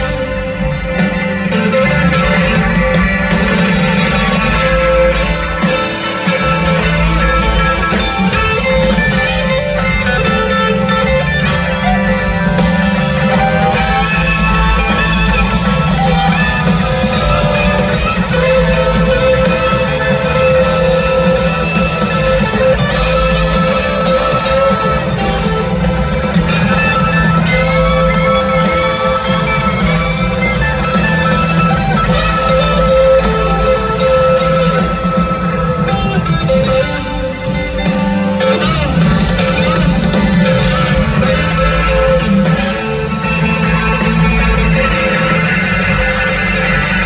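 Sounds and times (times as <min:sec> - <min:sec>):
bass guitar: 0:00.0 - 0:47.0
drums: 0:00.0 - 0:47.0
electric guitars: 0:00.0 - 0:47.0
live band music: 0:00.0 - 0:47.0.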